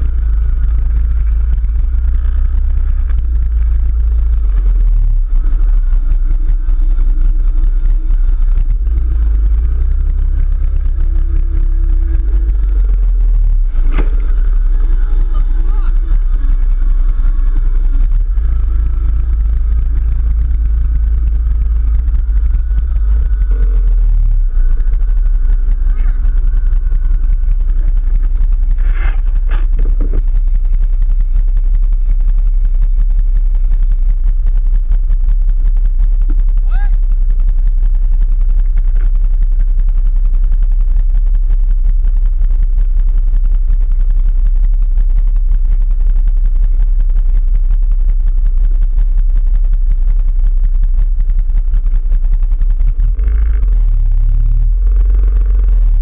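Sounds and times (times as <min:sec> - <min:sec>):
atv engine running: 0:00.0 - 0:56.0
heavy low rumble: 0:00.0 - 0:56.0.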